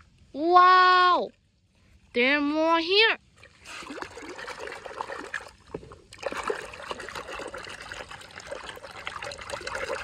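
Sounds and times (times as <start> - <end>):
water sloshing and bubbling in a tub: 0.0 - 10.0.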